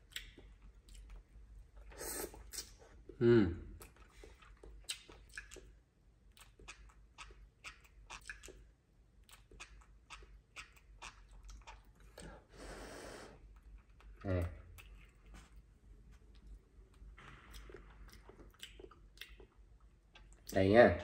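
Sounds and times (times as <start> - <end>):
monkey chewing clicks and smacks: 0.0 - 3.2, 3.8 - 12.4, 13.5 - 15.7, 16.3 - 20.6.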